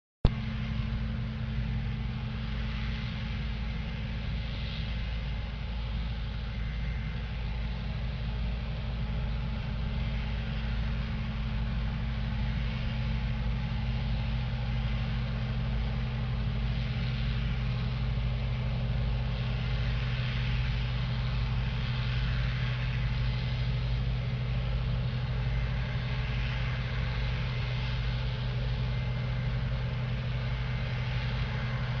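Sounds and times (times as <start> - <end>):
combine harvester running: 0.2 - 32.0.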